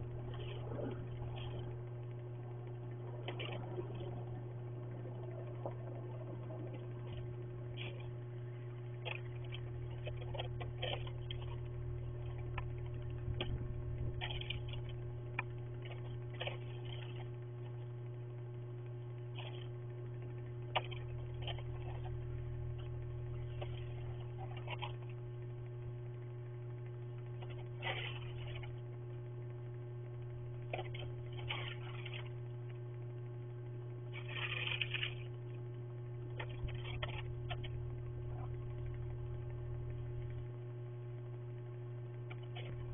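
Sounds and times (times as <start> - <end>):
steady electrical hum: 0.0 - 42.9.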